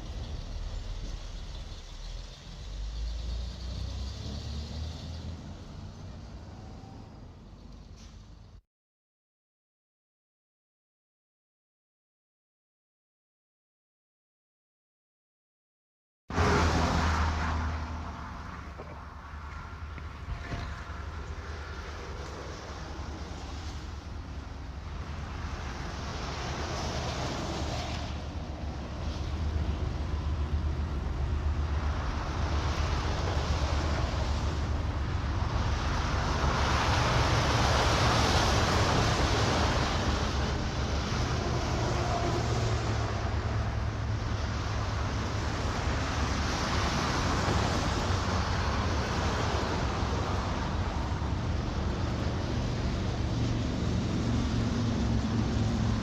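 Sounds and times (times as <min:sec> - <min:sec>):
vehicle engine rumble: 0:00.0 - 0:08.6, 0:16.3 - 0:56.0.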